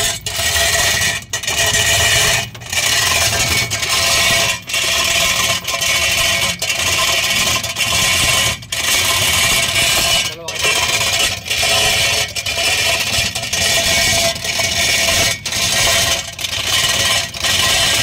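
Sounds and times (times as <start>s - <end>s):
chain hoist chain rattling: 0.6s - 18.0s.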